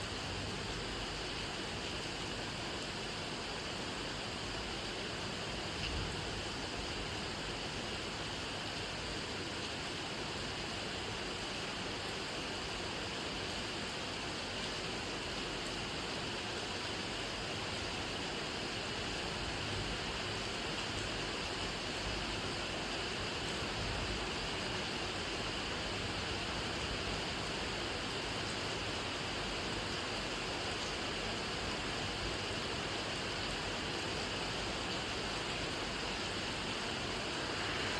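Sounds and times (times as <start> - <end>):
steady rainfall: 0.0 - 37.9.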